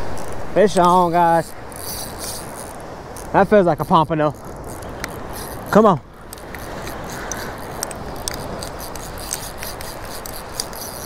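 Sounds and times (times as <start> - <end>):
fishing reel rasping tick: 0.0 - 11.0
wind: 0.0 - 11.0.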